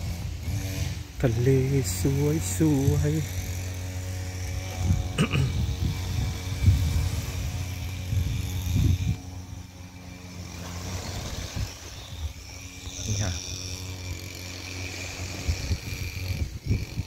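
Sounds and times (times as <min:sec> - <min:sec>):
low motor drone: 0:00.0 - 0:17.0.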